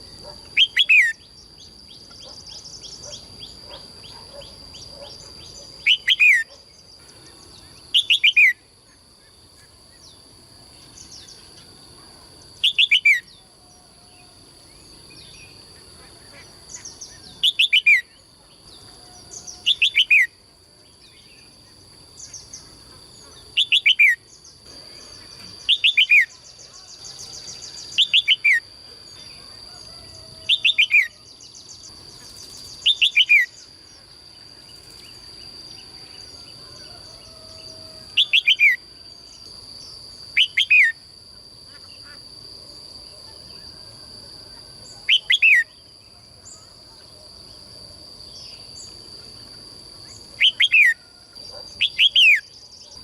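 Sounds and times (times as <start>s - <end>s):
songbird calling: 0.0s - 10.2s, 10.8s - 20.4s, 21.0s - 34.1s, 35.8s - 41.0s, 44.5s - 47.2s, 48.3s - 53.0s
steady high-pitched whine: 0.0s - 53.0s.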